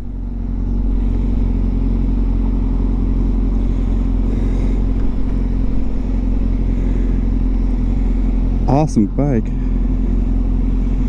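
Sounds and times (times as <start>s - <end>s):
low wind rumble: 0.0s - 11.0s
motorcycle engine cruising: 0.0s - 11.0s.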